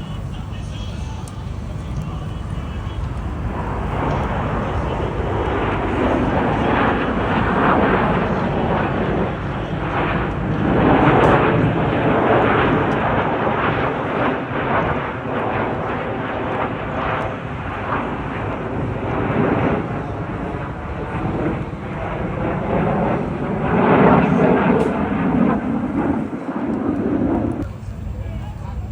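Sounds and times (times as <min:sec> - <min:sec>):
jet engine roar: 0:00.0 - 0:28.9.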